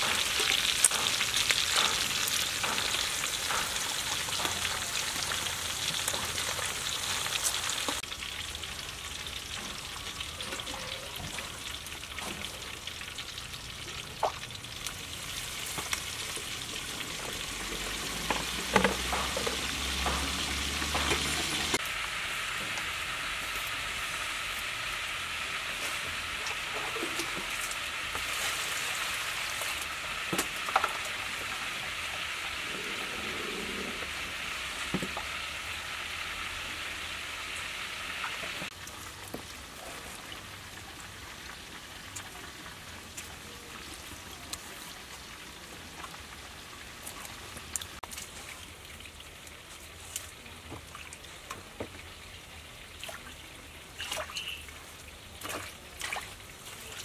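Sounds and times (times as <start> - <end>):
food sizzling in hot oil: 0.0 - 48.1, 54.3 - 55.3.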